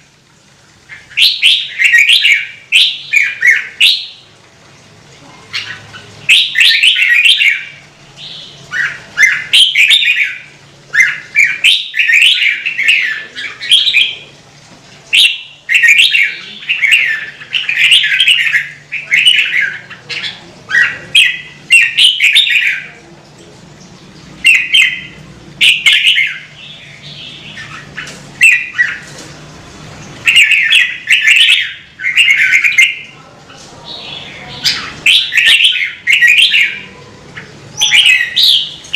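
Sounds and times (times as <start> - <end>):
bird singing fast warbling phrases: 0.9 - 4.3, 5.4 - 14.4, 15.1 - 23.1, 23.8 - 29.1, 30.2 - 38.9.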